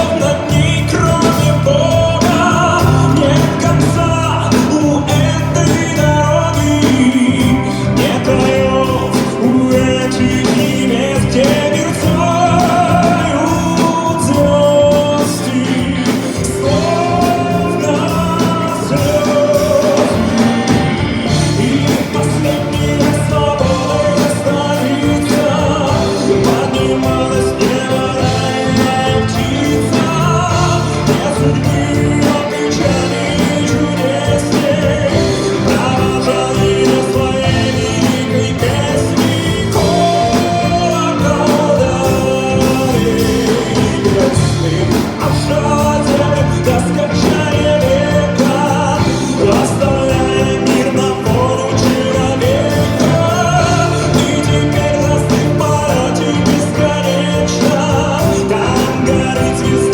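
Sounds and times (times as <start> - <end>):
instrumental accompaniment: 0.0 - 59.9
man singing: 0.0 - 59.9.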